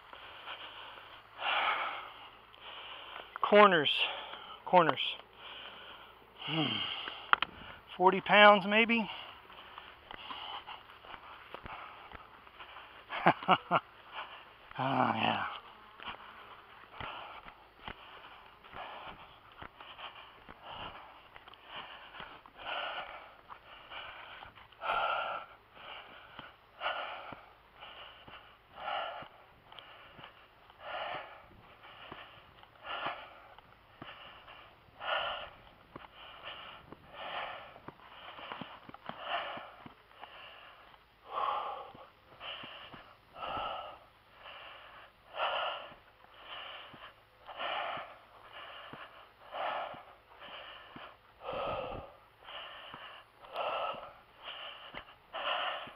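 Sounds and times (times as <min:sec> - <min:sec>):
man breathing hard: 0:00.0 - 0:55.9.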